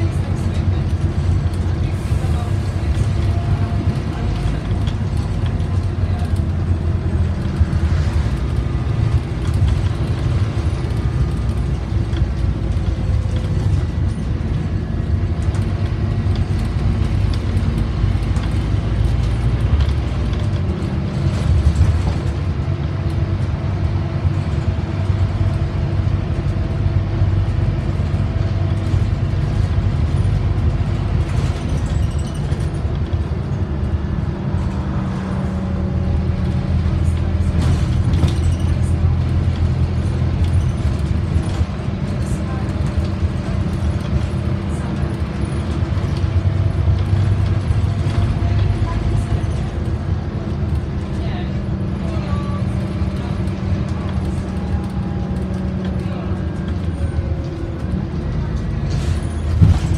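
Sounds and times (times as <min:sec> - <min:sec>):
bus diesel engine running: 0:00.0 - 0:59.9
low road rumble: 0:00.0 - 0:59.9
bodywork rattles and clicks: 0:02.7 - 0:59.9.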